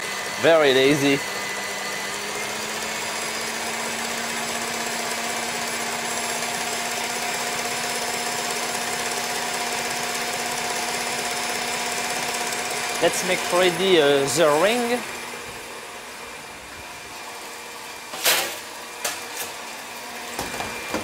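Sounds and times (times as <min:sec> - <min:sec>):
stand mixer whisking: 0:00.0 - 0:18.1.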